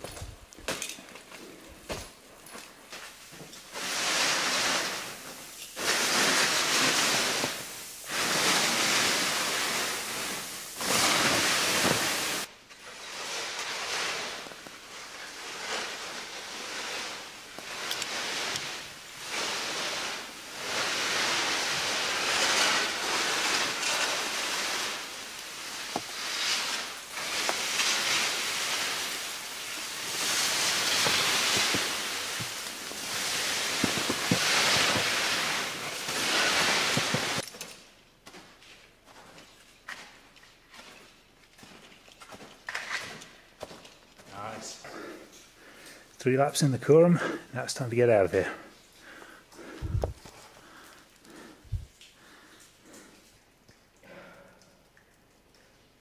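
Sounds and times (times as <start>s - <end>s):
skis hissing over snow: 2.9s - 37.4s, 41.6s - 53.2s.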